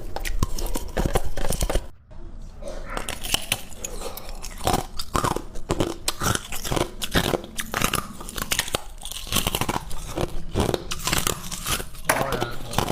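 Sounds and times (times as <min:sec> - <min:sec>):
chewing crunchy ice: 0:00.0 - 0:01.9, 0:02.9 - 0:12.9.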